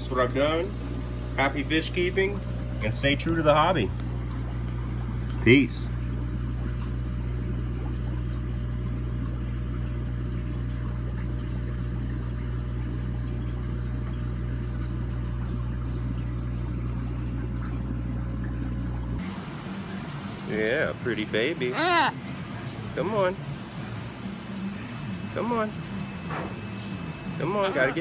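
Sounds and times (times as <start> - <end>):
aquarium pump humming: 0.0 - 28.0
faint moving water: 0.0 - 28.0.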